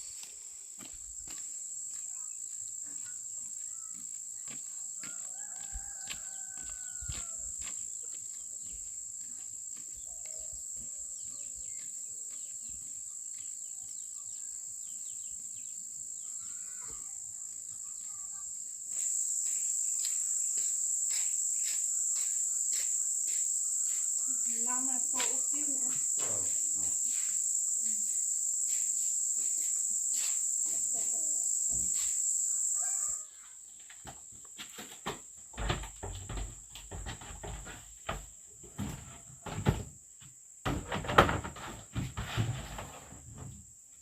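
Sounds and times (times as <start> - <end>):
high-pitched insect chorus: 0.0 - 43.6.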